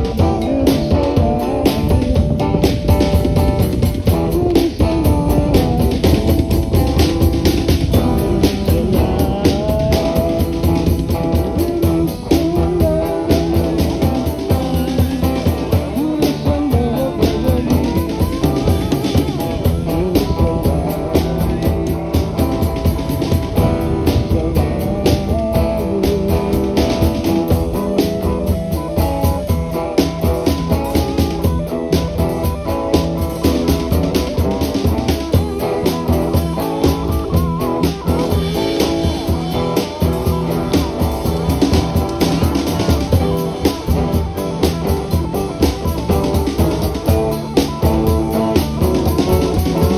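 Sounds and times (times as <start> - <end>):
drum kit steady beat: 0.0 - 49.9
rock band playing: 0.0 - 49.9
sliding melodic guitar line: 0.0 - 49.9.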